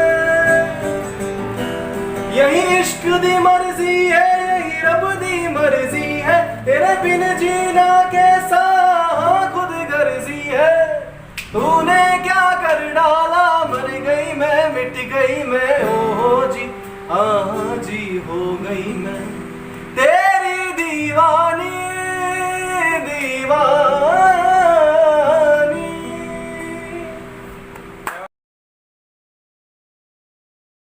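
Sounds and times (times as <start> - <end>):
man singing ornamented melody: 0.0 - 1.3, 2.3 - 27.5.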